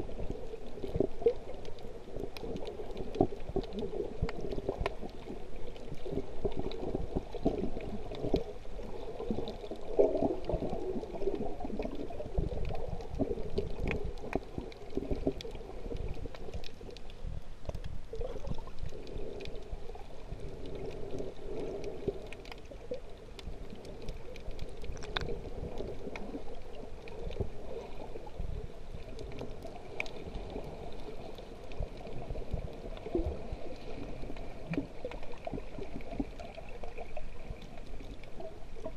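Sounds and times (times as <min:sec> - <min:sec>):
muffled churning water underwater: 0:00.0 - 0:38.9
sharp underwater clicks: 0:00.2 - 0:38.9.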